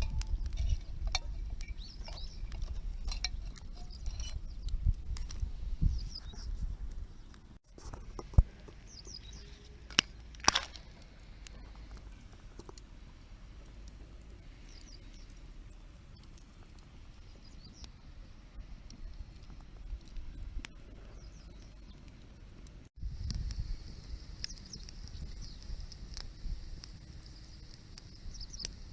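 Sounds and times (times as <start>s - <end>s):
wood snapping in fire: 0.0s - 5.5s, 8.1s - 17.9s, 18.8s - 28.9s
birds chirping faintly: 0.0s - 10.2s, 13.3s - 22.6s, 23.2s - 28.9s
campfire crackling and popping: 0.0s - 28.9s.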